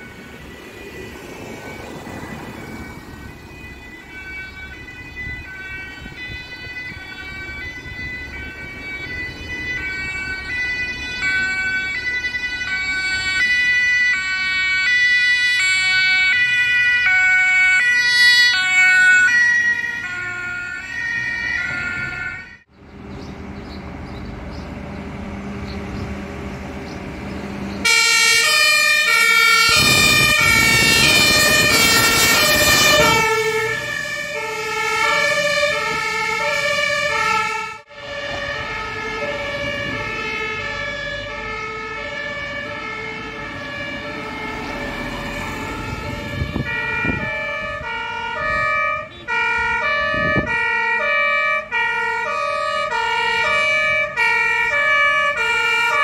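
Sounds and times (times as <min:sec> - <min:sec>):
second faster siren: 0:00.0 - 0:22.7, 0:27.8 - 0:56.0
two-tone siren: 0:00.0 - 0:22.7, 0:27.8 - 0:56.0
diesel engine and tyre noise: 0:00.0 - 0:56.0.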